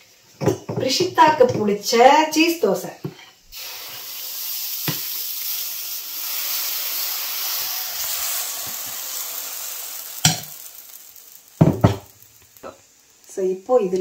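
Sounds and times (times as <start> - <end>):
batter sizzling on hot pan: 0.0 - 14.0.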